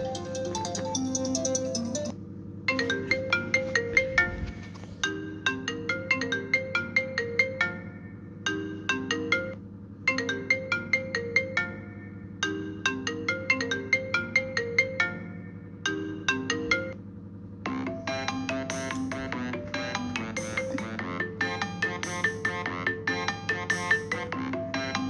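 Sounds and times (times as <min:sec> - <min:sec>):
high-pitched busy ringtone: 0:00.0 - 0:17.0, 0:17.7 - 0:25.0
phone ringtone melody: 0:00.0 - 0:17.0, 0:17.7 - 0:25.0.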